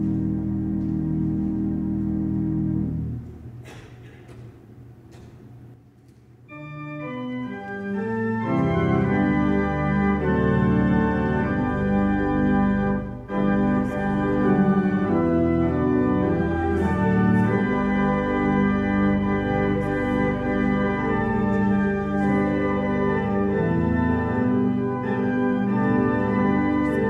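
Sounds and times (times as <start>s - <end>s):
church organ chords: 0.0s - 3.8s, 6.5s - 27.0s.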